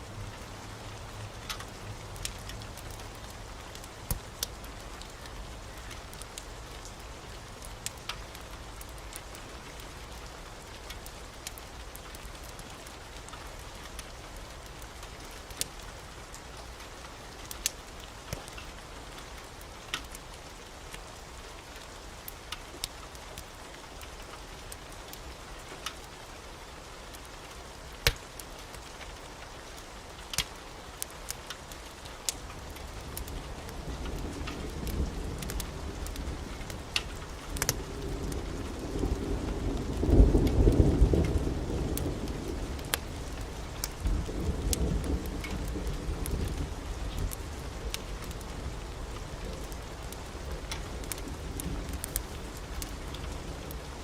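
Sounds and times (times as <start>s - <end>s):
steady rain: 0.0s - 54.0s
wood fire crackling and popping: 1.2s - 21.1s, 27.1s - 54.0s.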